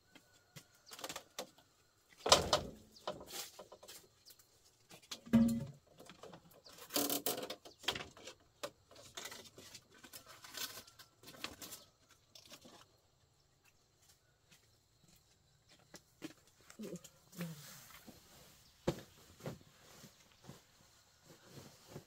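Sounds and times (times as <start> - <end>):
bamboo shutter rustling and scraping: 0.6 - 14.2, 16.2 - 22.0.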